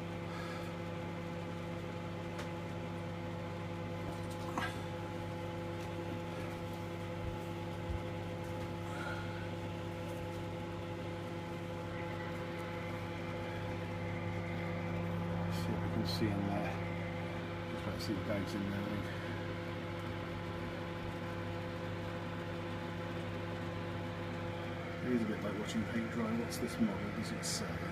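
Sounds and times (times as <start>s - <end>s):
microwave oven humming: 0.0s - 27.9s.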